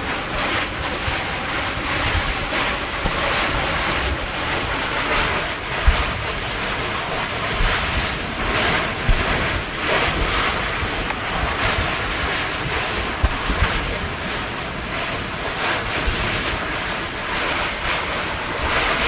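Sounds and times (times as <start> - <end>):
surf washing against shore: 0.0 - 19.0
wind buffeting microphone: 0.0 - 19.0.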